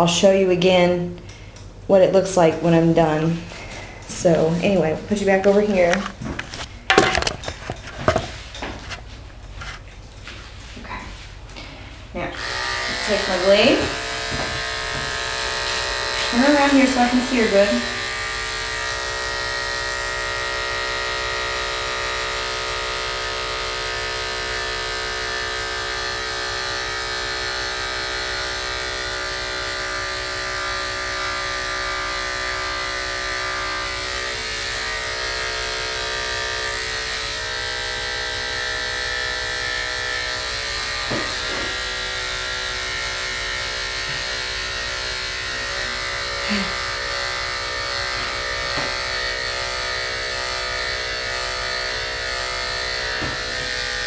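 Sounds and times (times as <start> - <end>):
electric clippers humming: 1.0 - 54.0.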